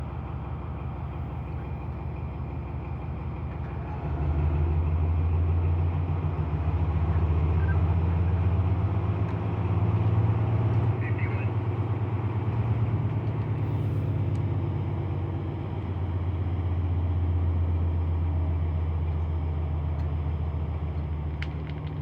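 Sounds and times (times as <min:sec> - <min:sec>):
diesel locomotive engine throbbing: 0:00.0 - 0:22.0.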